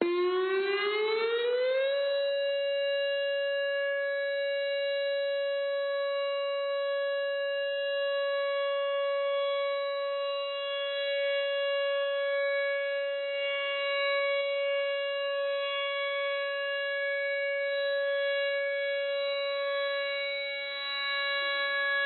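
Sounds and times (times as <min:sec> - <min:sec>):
civil defense siren wailing: 0:00.0 - 0:22.0.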